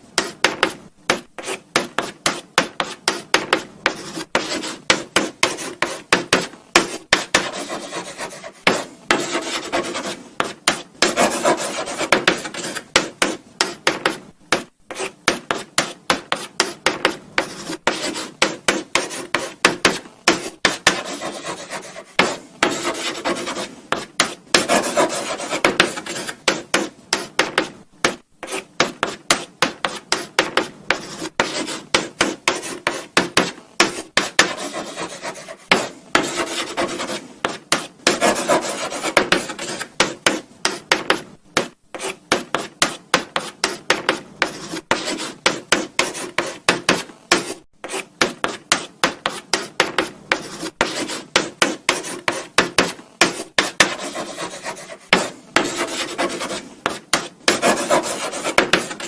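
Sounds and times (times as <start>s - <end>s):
chalk scratching on blackboard: 0.2s - 59.0s
chalk tapping on board: 0.2s - 59.0s.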